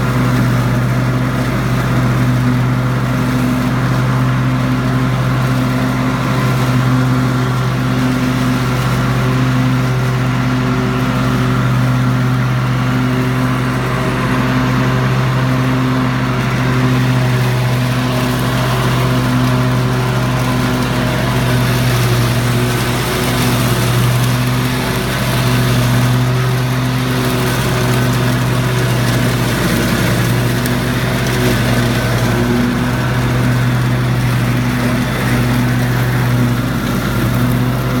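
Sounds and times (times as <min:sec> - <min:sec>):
mower engine cutting grass: 0:00.0 - 0:38.0.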